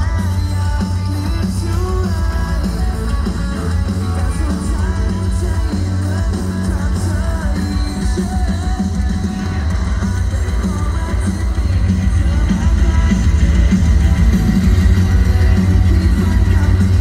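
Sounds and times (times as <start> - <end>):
heavy bass: 0.0 - 17.0
live rock band with singer: 0.0 - 17.0.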